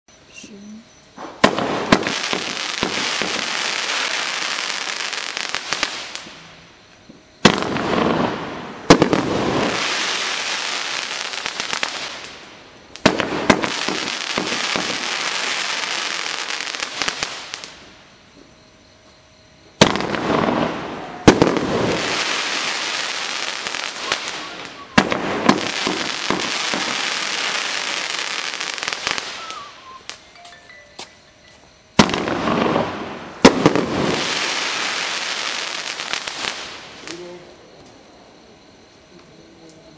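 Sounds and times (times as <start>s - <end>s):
firework stars crackling: 1.2s - 18.1s, 19.8s - 38.0s.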